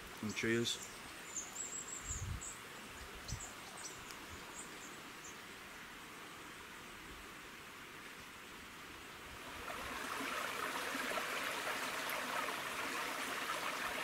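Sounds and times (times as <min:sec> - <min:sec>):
stream running over rocks: 0:02.6 - 0:14.0.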